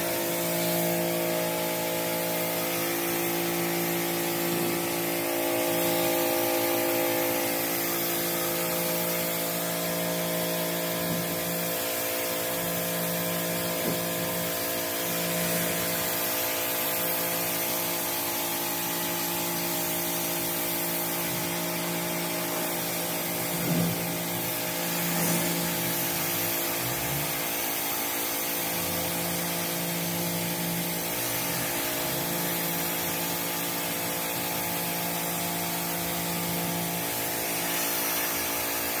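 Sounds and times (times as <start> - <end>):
pressure washer motor hum: 0.0 - 39.0
water jet hissing on concrete: 0.0 - 39.0.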